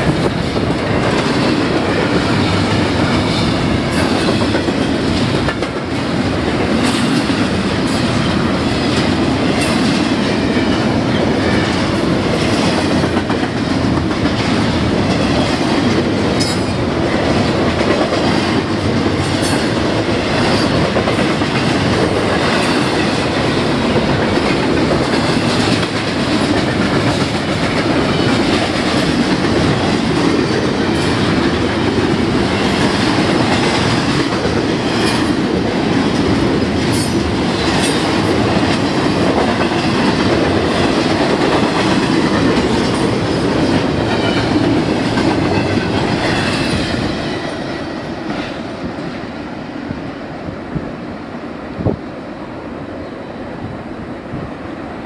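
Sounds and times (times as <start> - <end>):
wheels clacking over rail joints: 0.0 - 48.6
freight train wheels rumbling: 0.0 - 55.0.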